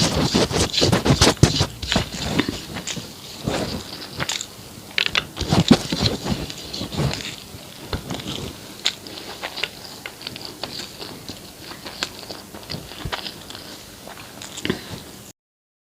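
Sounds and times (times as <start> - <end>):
close chewing: 0.0 - 15.0.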